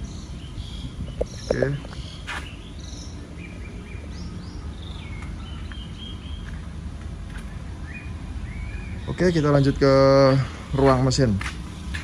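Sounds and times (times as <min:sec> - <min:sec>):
low outdoor background: 0:00.0 - 0:12.0
small birds chirping: 0:00.0 - 0:12.0.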